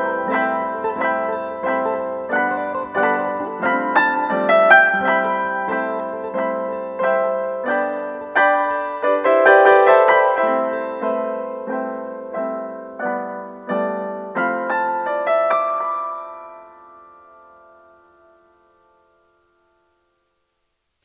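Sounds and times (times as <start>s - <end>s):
piano chords: 0.0s - 20.2s.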